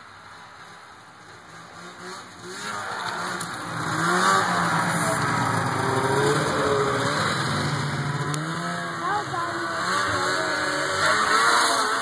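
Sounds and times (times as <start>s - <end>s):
snowmobile engine passing by: 1.2s - 12.0s.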